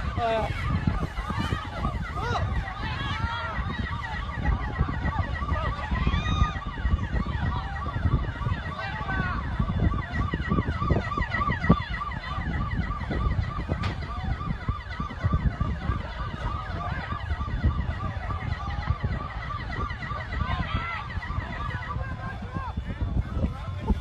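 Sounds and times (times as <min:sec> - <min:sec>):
low rumbling noise: 0:00.0 - 0:24.0
siren yelping: 0:00.0 - 0:24.0
sliding siren tones: 0:00.0 - 0:24.0.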